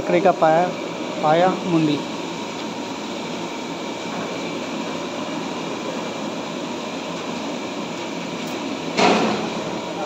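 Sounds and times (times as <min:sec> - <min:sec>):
cooking fire roaring: 0:00.0 - 0:10.0.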